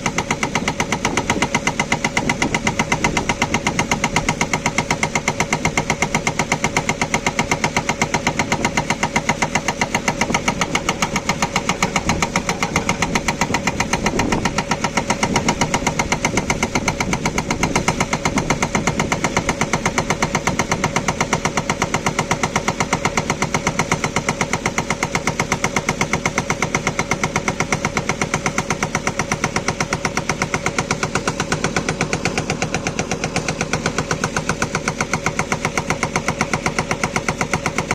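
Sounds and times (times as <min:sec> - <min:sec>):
diesel engine under load: 0:00.0 - 0:37.9
hydraulic rock breaker hammering stone: 0:00.0 - 0:37.9.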